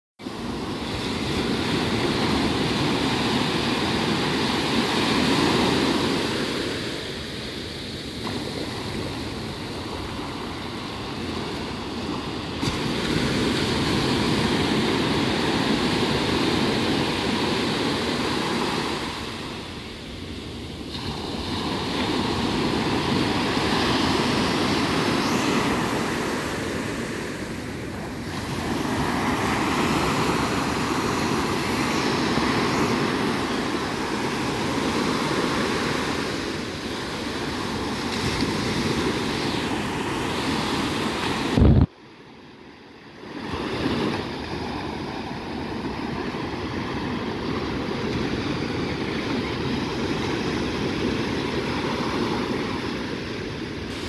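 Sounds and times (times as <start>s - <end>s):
waves breaking on sand: 0.2s - 54.0s.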